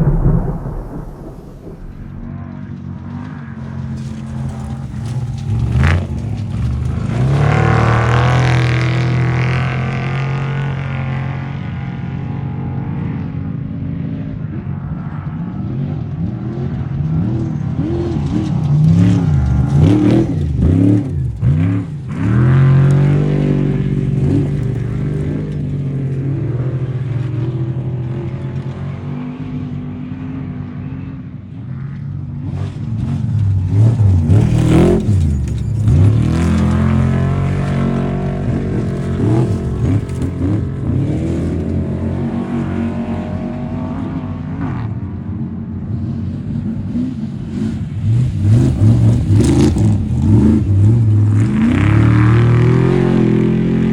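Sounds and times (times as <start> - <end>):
racing vehicle engines revving: 0.0 - 14.4, 15.1 - 31.1, 31.9 - 53.9.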